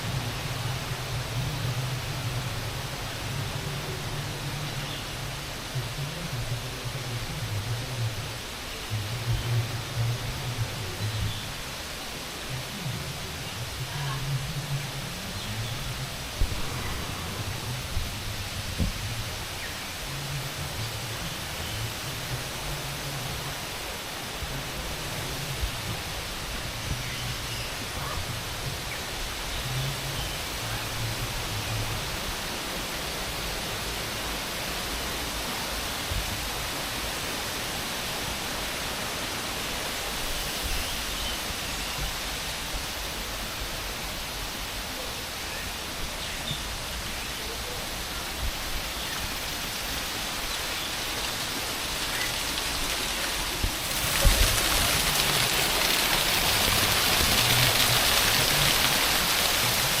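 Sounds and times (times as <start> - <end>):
running water rushing: 0.0 - 60.0.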